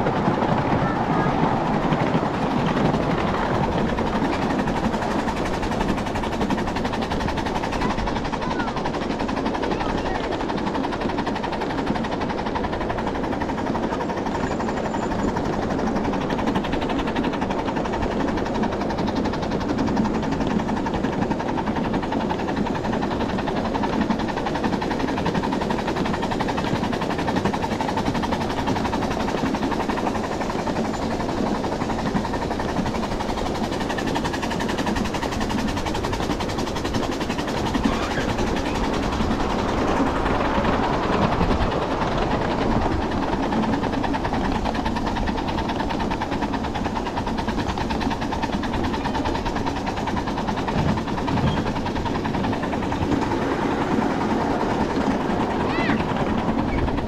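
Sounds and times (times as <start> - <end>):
train cars rumbling on rails: 0.0 - 57.0.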